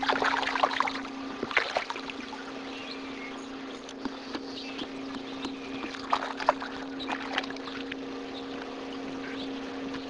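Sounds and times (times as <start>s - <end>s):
boat low hum: 0.0s - 10.0s.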